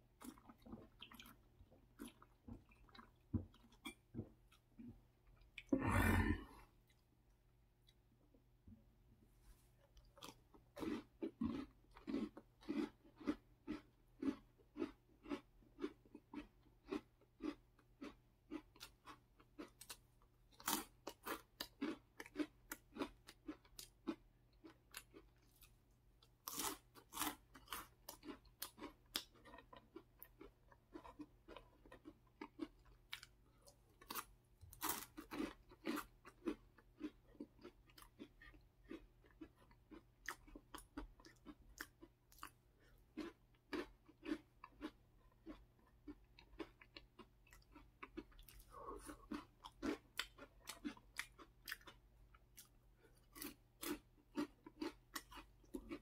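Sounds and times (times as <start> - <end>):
crunchy chewing of snacks: 0.0 - 7.1, 9.6 - 56.0.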